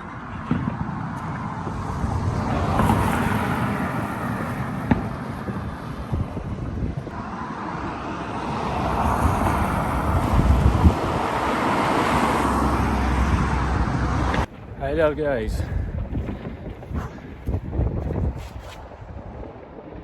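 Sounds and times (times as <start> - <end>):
road traffic passing: 0.0 - 19.2.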